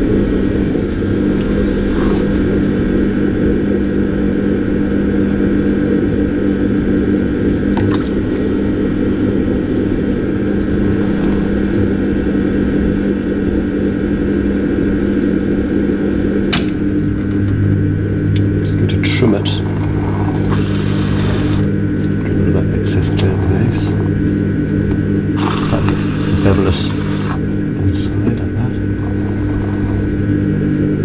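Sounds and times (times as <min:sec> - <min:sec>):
potter's wheel humming: 0:00.0 - 0:31.0.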